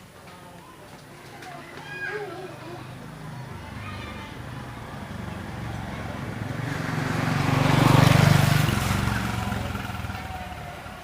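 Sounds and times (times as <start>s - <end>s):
motor vehicle passing by: 2.0s - 11.0s.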